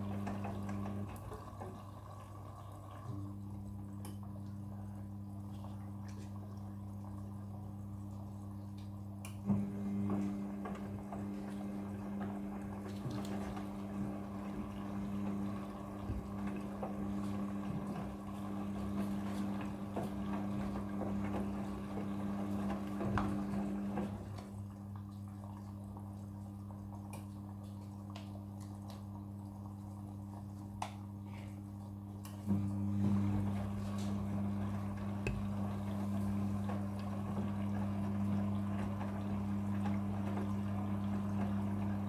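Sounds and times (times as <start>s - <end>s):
washing machine hum: 0.0s - 42.0s
water sloshing in washing machine: 0.0s - 42.0s.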